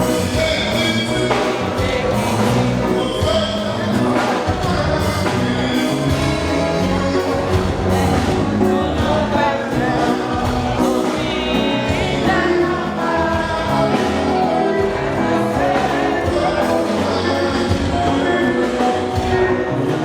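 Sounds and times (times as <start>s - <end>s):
song with voices and instruments: 0.0s - 20.0s.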